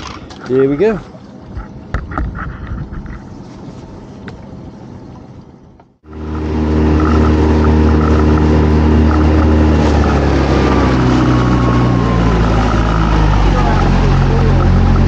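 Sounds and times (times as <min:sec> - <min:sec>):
boat engine running: 0:00.0 - 0:15.0
water rushing along hull: 0:00.0 - 0:15.0.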